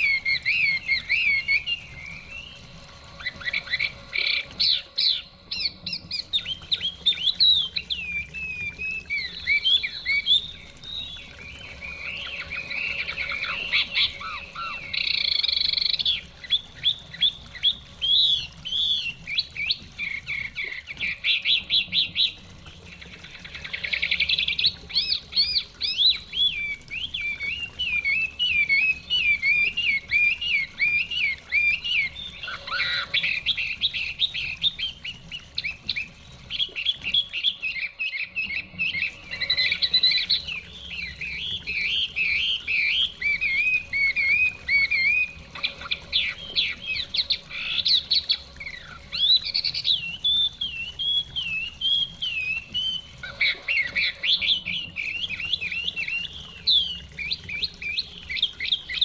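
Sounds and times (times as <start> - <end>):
bird singing whistled song: 0.0 - 59.0.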